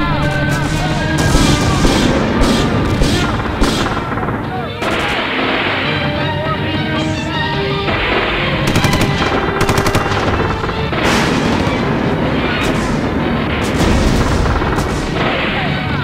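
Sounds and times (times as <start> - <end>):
background music: 0.0 - 16.0
machine-gun fire: 0.3 - 6.0, 7.9 - 15.9
single gunshots: 1.2 - 6.0, 7.9 - 16.0.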